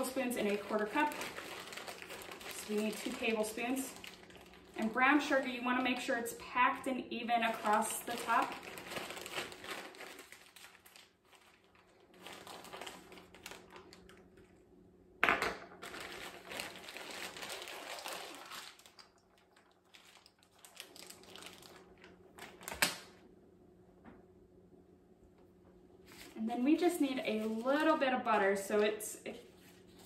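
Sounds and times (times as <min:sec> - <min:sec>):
plastic bag crinkling: 0:00.0 - 0:06.2, 0:07.2 - 0:14.6, 0:15.8 - 0:23.2, 0:26.0 - 0:30.0.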